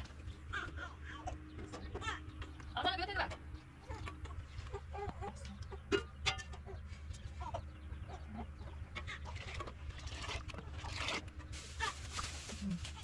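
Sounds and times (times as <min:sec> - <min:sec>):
chickens clucking: 0:00.0 - 0:13.0
steady low hum: 0:00.0 - 0:13.0.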